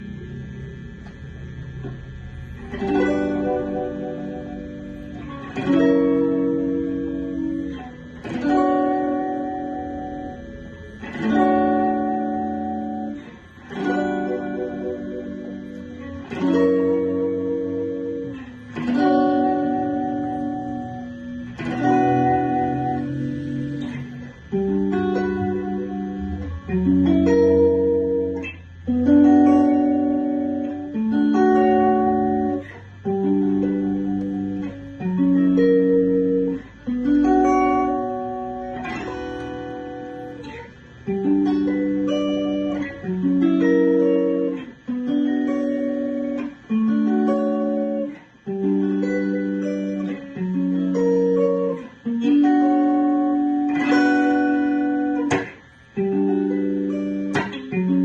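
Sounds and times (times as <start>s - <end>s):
guitar strumming chords: 0.0s - 58.0s.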